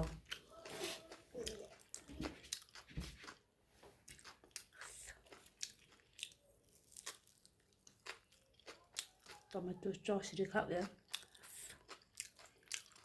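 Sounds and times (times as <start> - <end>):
crunching of chewing fried snack: 0.0 - 9.6, 10.7 - 13.0.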